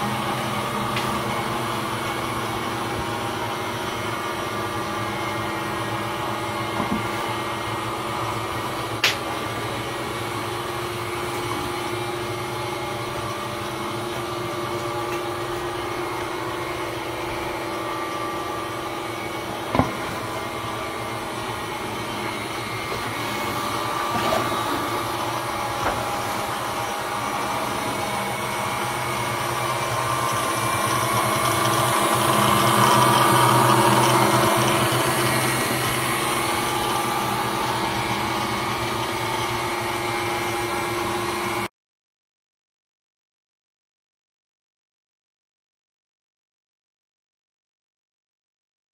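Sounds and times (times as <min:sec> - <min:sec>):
steady mechanical drone: 0:00.0 - 0:41.7.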